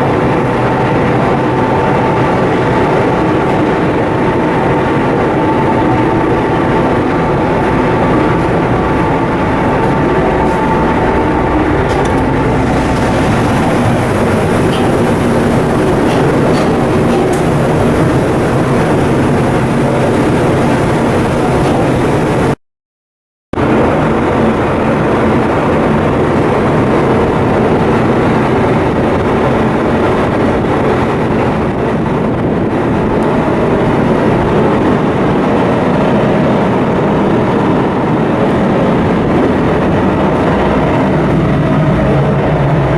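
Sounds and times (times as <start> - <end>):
diesel machinery rumbling: 0.0 - 22.6, 23.6 - 42.9.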